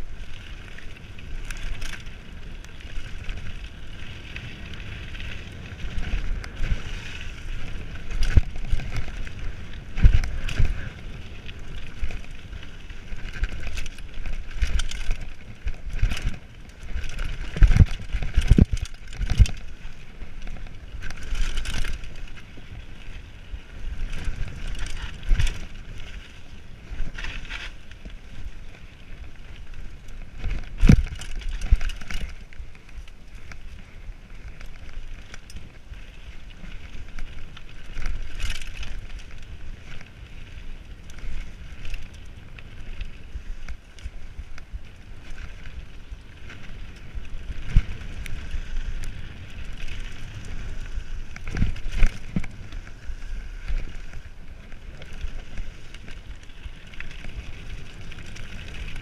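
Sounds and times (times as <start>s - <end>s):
bike tyres rushing on dirt: 0.0s - 59.0s.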